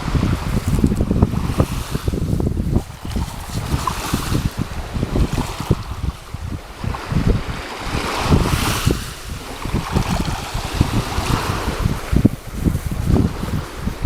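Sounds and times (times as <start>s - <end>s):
sea waves rushing: 0.0s - 14.0s
wind buffeting microphone: 0.0s - 14.0s.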